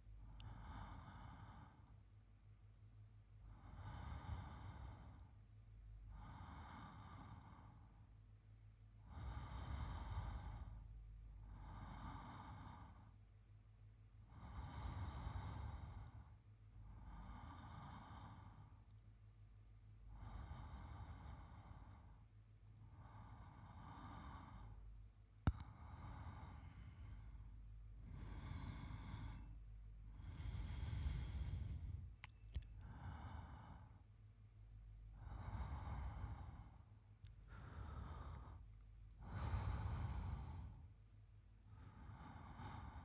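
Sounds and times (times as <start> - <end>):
man's slow sleeping breaths: 0.0 - 2.5, 3.3 - 13.4, 14.1 - 19.0, 19.9 - 43.0.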